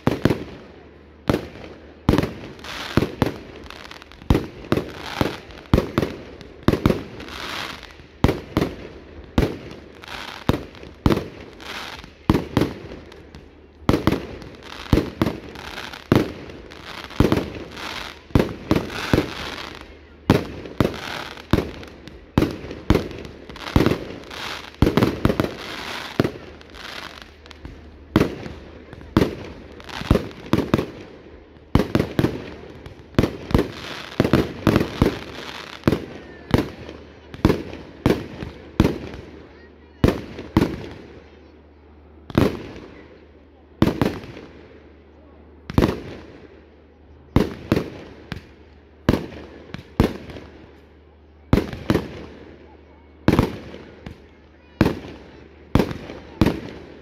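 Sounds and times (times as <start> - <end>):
fireworks bangs: 0.0 - 41.4, 47.3 - 52.6, 53.2 - 57.0
fireworks crackling: 0.0 - 57.0.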